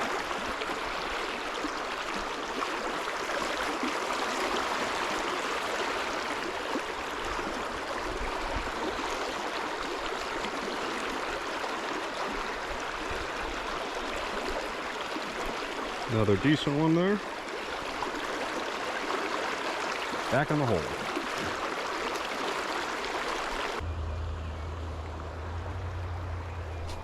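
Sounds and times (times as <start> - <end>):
creek water rushing over rocks: 0.0 - 23.8.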